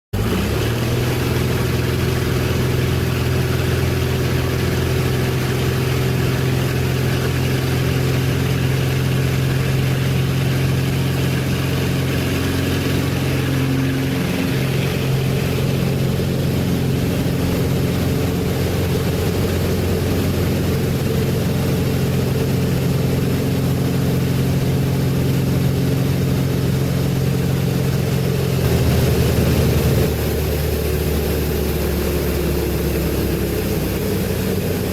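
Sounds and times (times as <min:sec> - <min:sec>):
light airplane engine droning: 0:00.2 - 0:34.9.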